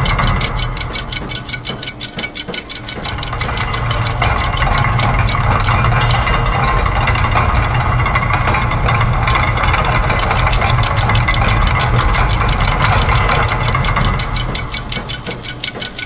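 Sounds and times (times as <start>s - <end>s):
low mechanical rumble: 0.0s - 16.0s
ticking and clicking gears: 0.0s - 16.0s.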